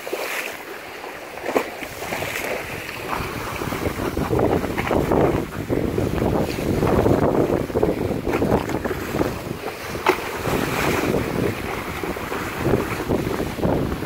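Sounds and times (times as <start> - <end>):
waves surging against concrete: 0.0 - 14.0
wind buffeting microphone: 1.8 - 14.0.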